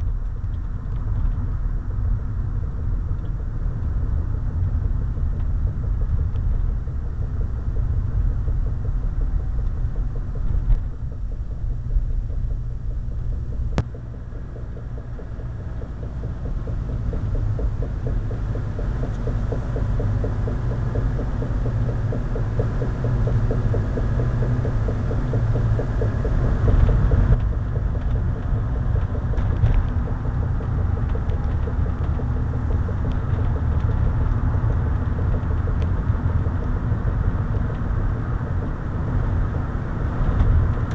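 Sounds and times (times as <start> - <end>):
car driving rumble: 0.0 - 40.9
fast repeating wheel knock: 2.6 - 40.9.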